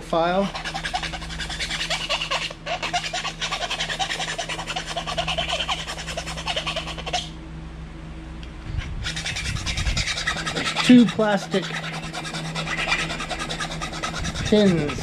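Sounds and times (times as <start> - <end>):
file rasping on plastic: 0.0 - 7.3, 9.0 - 15.0.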